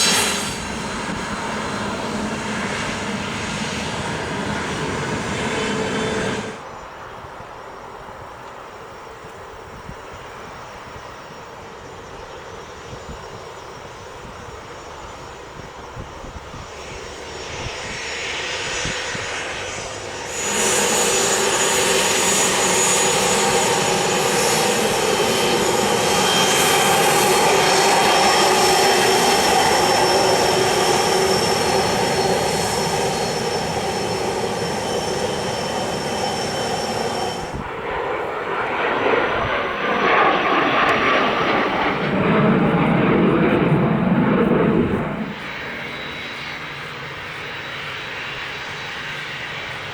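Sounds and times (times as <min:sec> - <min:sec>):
jet engines roaring with high whine: 0:00.0 - 0:49.9.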